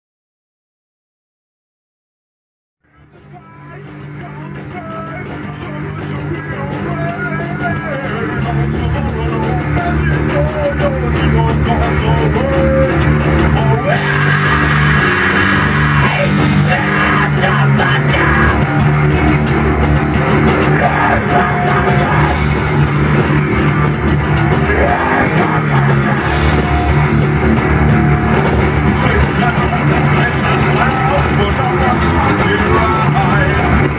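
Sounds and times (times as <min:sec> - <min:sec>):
heavy metal band playing: 0:02.8 - 0:33.9.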